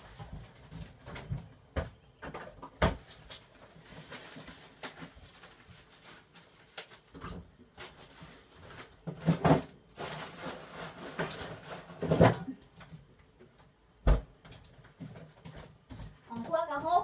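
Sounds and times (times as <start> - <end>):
objects knocking and rustling: 0.0 - 17.0.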